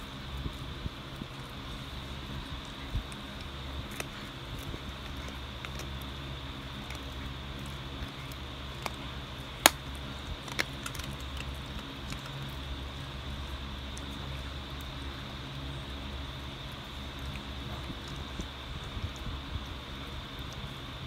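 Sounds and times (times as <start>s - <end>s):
dog gnawing a bone: 0.0s - 21.0s
steady low hum: 0.0s - 21.0s.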